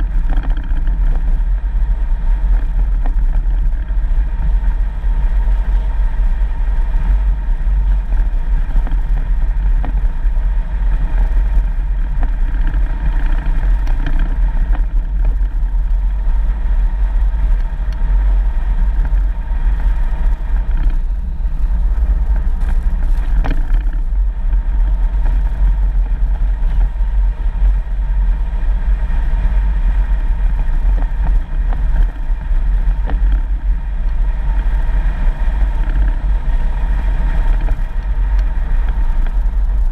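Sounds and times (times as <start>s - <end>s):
tyres on dirt road: 0.0s - 39.9s
vehicle engine rumbling: 0.0s - 39.9s.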